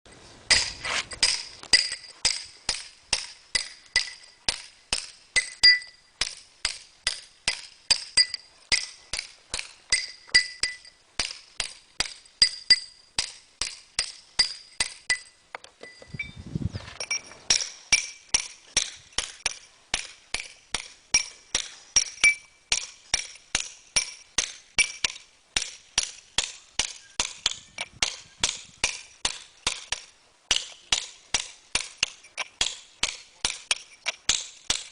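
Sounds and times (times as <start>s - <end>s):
hammer striking steel chisel: 0.5s - 16.3s, 17.0s - 34.9s.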